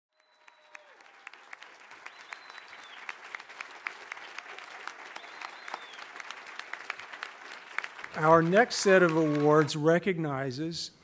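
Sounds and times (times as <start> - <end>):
audience applauding: 0.1 - 10.1.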